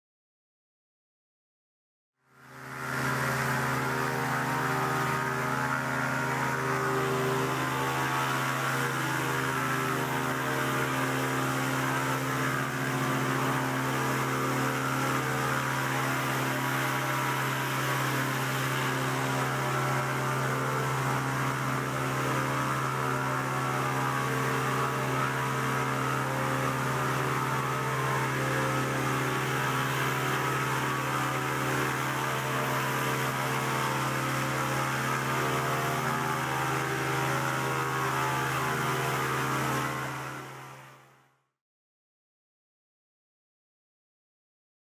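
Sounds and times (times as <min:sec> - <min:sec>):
loud machine drone: 0:02.4 - 0:41.1.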